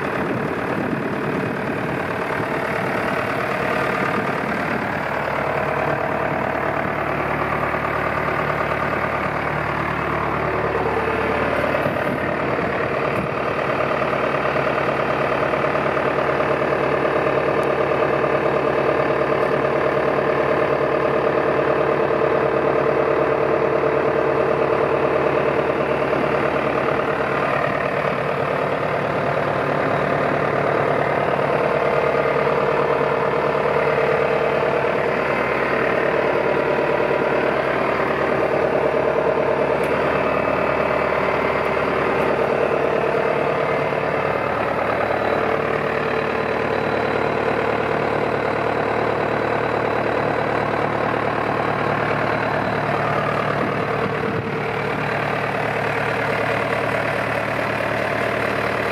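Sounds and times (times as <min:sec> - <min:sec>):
tractor diesel engine idling: 0:00.0 - 0:58.9.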